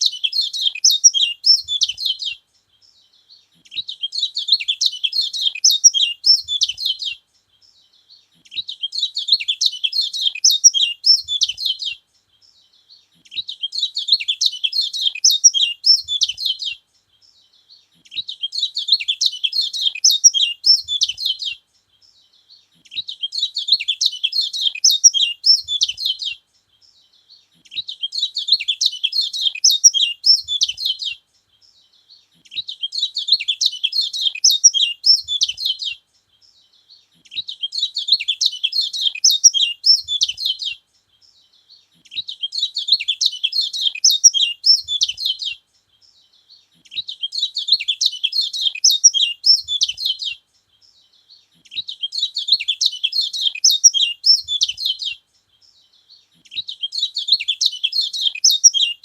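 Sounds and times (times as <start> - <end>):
bird twittering song: 0.0 - 59.0.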